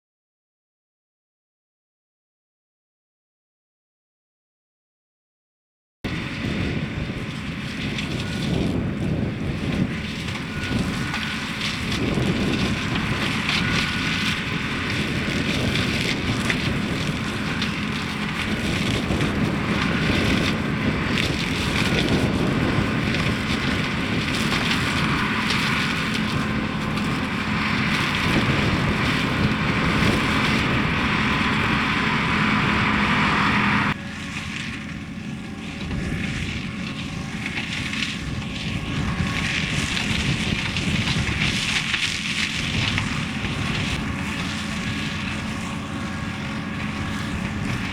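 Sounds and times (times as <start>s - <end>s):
tractor engine under load: 6.1s - 47.9s.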